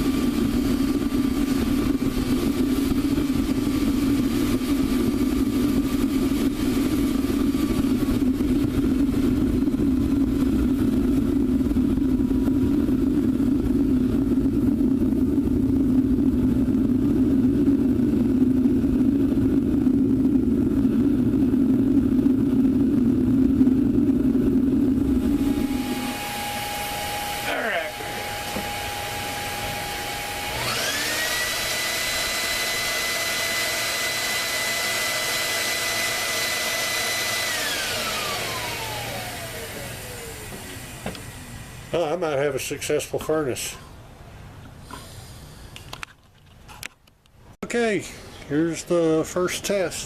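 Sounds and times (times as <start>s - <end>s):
low hum: 0.0s - 42.5s
burner roaring: 0.0s - 43.3s.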